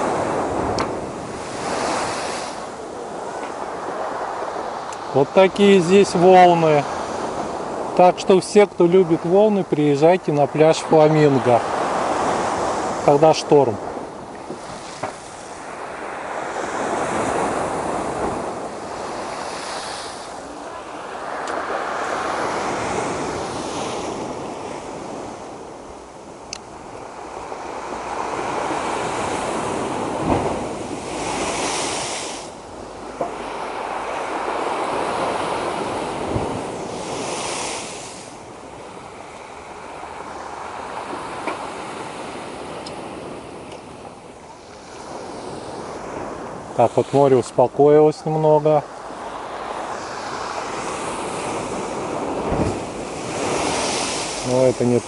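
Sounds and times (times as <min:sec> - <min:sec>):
storm waves breaking on shore: 0:00.0 - 0:55.0
wind on microphone: 0:00.0 - 0:55.0.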